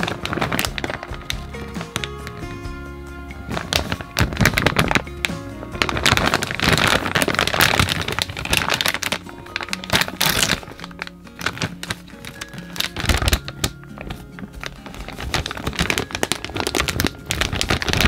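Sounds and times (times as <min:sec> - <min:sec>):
snack packaging crinkling: 0:00.0 - 0:02.6, 0:03.4 - 0:18.0
background music with held notes: 0:00.0 - 0:18.0.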